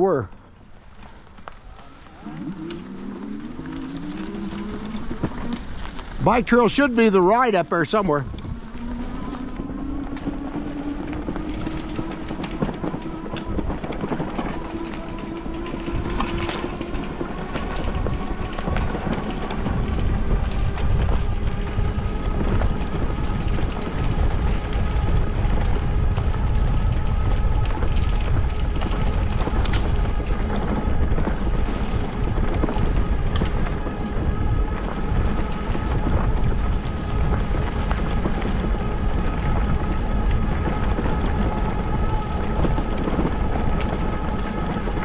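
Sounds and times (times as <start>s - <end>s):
tyres rolling over rough grass: 0.0s - 45.0s
wind rumble on microphone: 0.0s - 45.0s.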